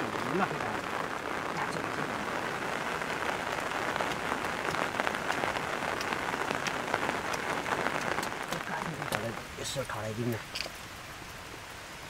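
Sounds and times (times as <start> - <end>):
raindrops ticking: 0.0 - 12.0
steady rain falling: 0.0 - 12.0.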